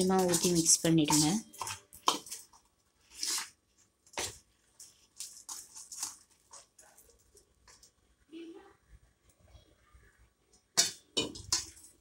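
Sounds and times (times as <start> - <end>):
spoon stirring batter in bowl: 0.0 - 8.3, 10.4 - 12.0.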